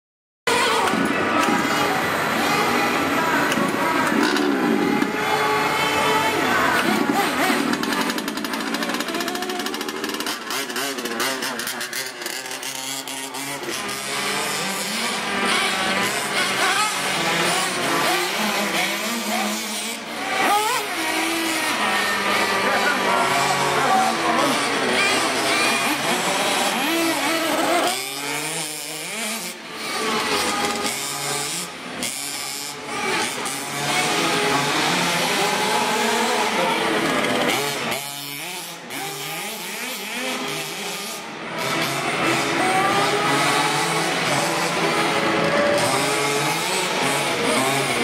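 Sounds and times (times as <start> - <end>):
toy car motors whining: 0.5 - 48.0.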